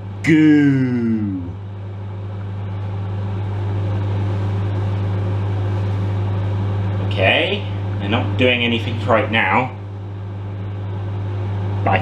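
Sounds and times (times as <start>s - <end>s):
microwave oven running: 0.0s - 12.0s.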